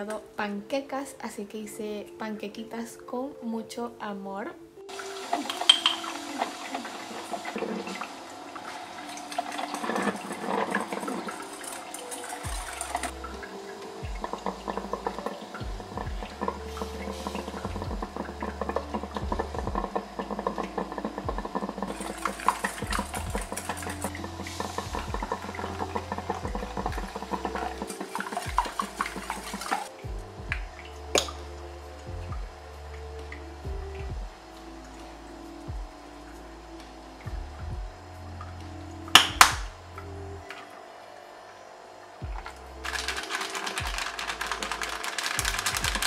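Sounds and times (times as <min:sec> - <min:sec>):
background music with bass: 0:00.0 - 0:40.8, 0:42.1 - 0:46.0.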